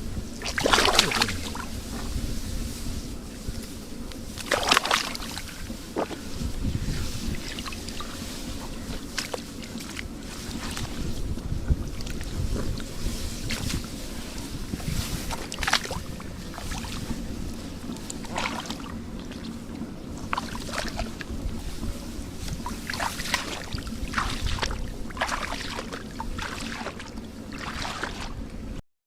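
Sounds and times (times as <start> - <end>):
water splashing and sloshing: 0.0 - 28.8
wind on microphone: 0.0 - 28.8.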